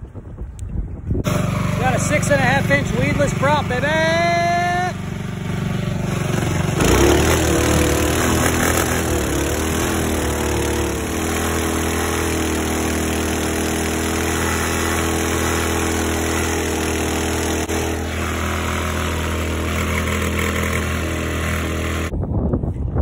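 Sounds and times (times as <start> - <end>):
boat engine running hard: 1.2 - 22.1.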